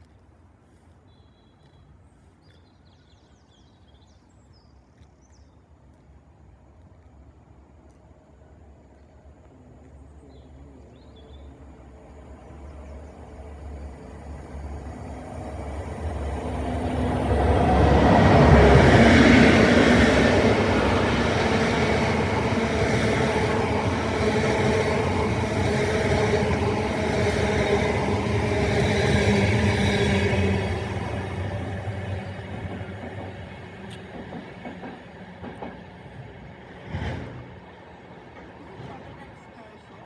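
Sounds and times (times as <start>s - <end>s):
train passing: 7.6s - 40.0s.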